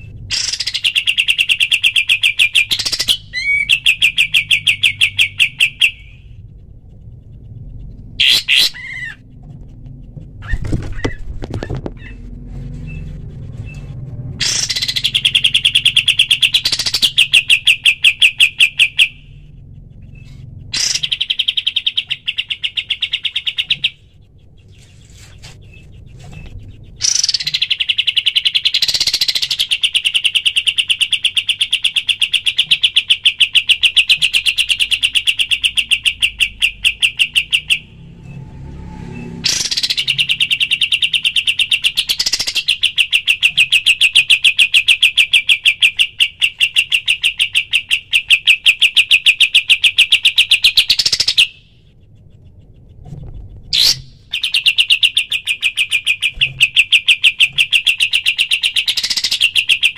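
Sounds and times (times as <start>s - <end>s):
bird chirps: 0.0s - 38.4s, 39.0s - 59.9s
bird rattling calls: 0.3s - 19.3s, 20.0s - 24.0s, 24.6s - 37.9s, 39.4s - 51.6s, 52.9s - 59.9s.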